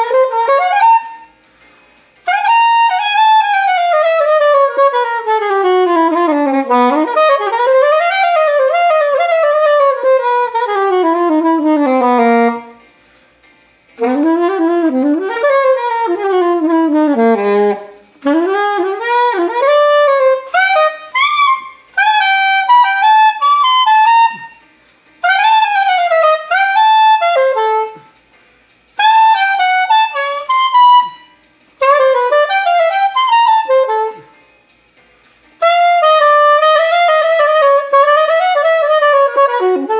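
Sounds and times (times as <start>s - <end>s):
solo wind instrument melody: 0.0s - 1.4s, 2.2s - 12.9s, 14.0s - 28.2s, 29.0s - 34.4s, 35.6s - 39.9s.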